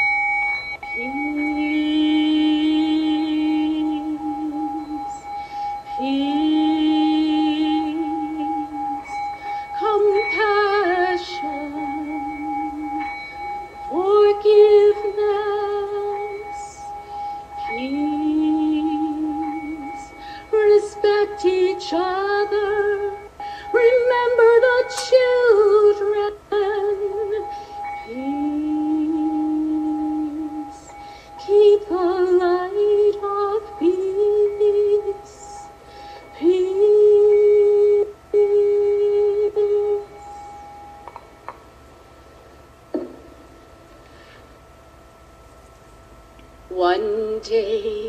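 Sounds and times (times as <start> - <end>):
woman singing long notes: 0.0 - 41.2, 46.7 - 48.0
singing bowl ringing: 0.0 - 48.0.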